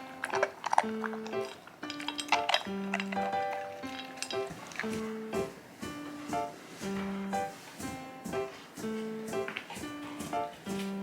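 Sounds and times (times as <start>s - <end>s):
light instrumental music: 0.0s - 11.0s.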